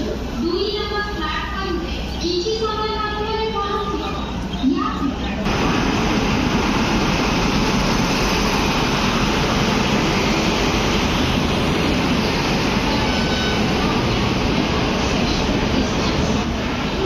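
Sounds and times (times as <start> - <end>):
train rumbling in motion: 0.0 - 17.0.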